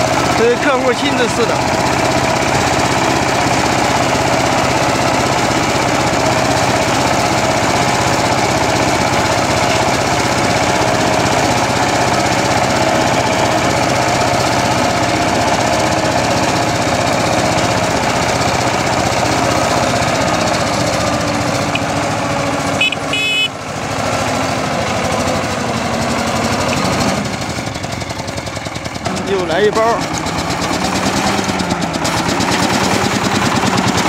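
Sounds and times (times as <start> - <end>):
tractor engine chugging: 0.0 - 34.0.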